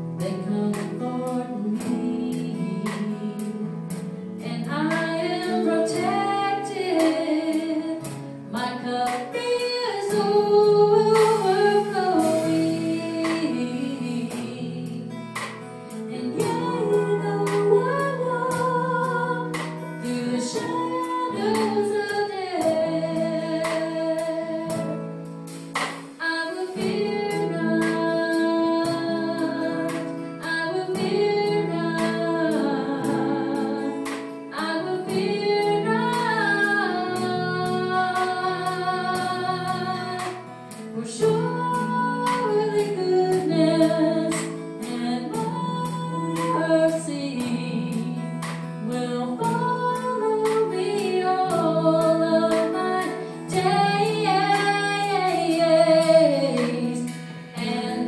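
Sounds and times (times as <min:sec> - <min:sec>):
drum kit steady beat: 0:00.0 - 0:09.4, 0:10.0 - 0:58.0
woman singing: 0:00.0 - 0:25.1, 0:26.0 - 0:58.0
acoustic-electric guitar: 0:00.0 - 0:58.0
electric keyboard: 0:00.0 - 0:58.0.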